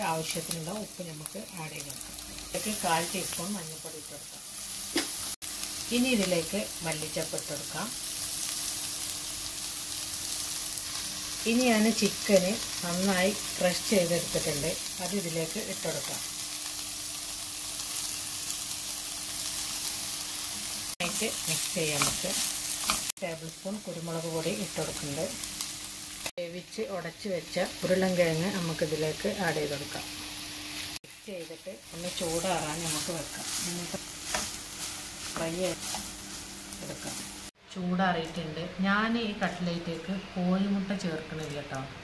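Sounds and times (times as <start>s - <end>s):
onion and chicken sizzling in a pan: 0.0s - 37.6s.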